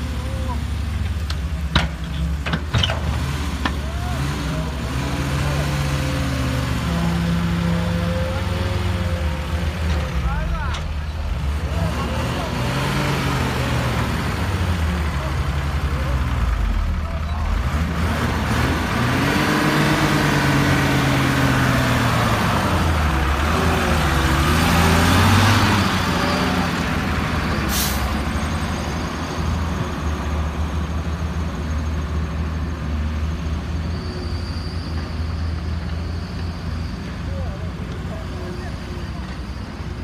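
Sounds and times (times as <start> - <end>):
diesel truck engine revving: 0.0 - 40.0.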